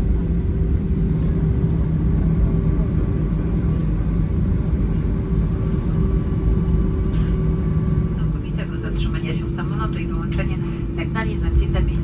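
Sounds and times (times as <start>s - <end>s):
airplane wheels rumbling on ground: 0.0s - 12.0s
jet engines humming: 0.0s - 12.0s.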